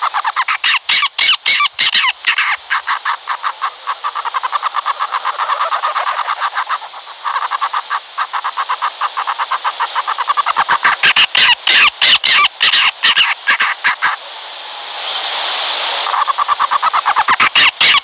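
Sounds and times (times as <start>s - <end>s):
owl chattering call: 0.0s - 14.2s, 16.0s - 18.0s.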